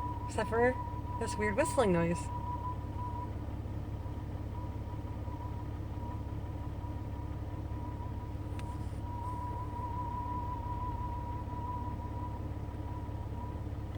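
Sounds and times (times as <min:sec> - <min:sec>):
high wavering whistle: 0:00.0 - 0:03.3, 0:04.6 - 0:13.6
engine idling: 0:00.0 - 0:13.9.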